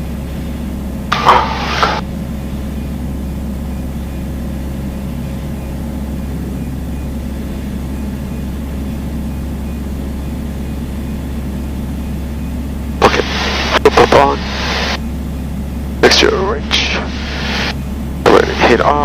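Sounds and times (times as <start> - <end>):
airplane piston engine drone: 0.0 - 19.0.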